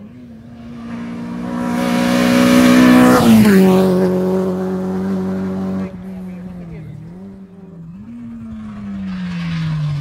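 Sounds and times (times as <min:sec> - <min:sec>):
rally car passing by: 0:00.0 - 0:10.0.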